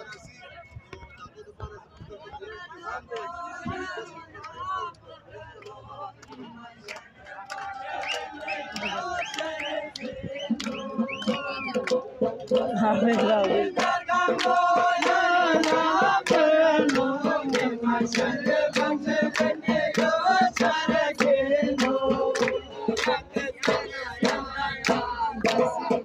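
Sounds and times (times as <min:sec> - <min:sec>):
men singing in unison: 0:02.6 - 0:26.0
rhythmic hand clapping: 0:03.1 - 0:26.0.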